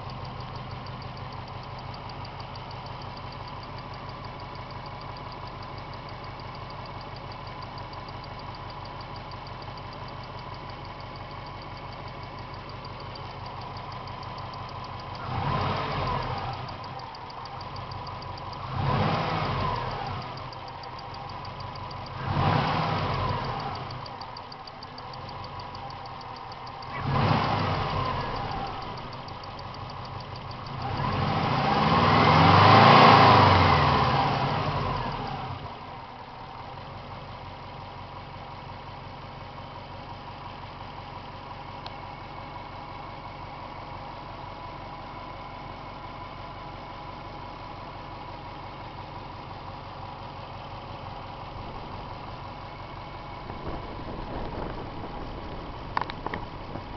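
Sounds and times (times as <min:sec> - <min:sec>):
car engine revving and idling: 0:00.0 - 0:56.9.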